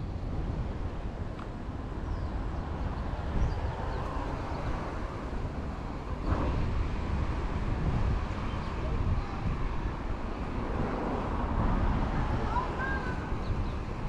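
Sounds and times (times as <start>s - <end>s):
low outdoor street rumble: 0.0s - 14.0s.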